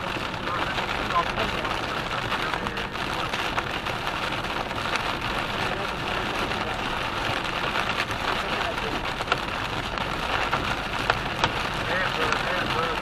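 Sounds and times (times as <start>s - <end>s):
rain pelting a car: 0.0s - 13.0s
road and engine noise: 0.0s - 13.0s.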